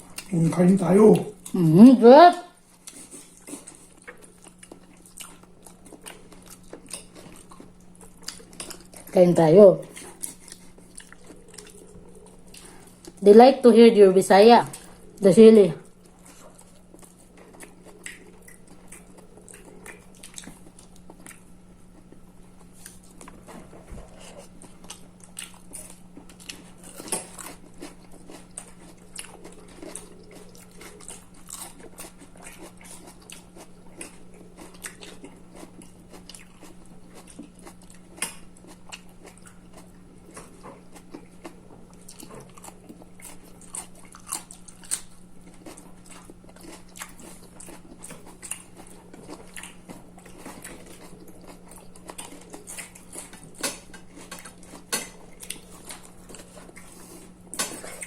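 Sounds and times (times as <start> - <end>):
steady low hum: 0.0 - 58.0
chewing and mouth smacks: 2.8 - 9.1, 9.9 - 13.2, 15.8 - 58.0.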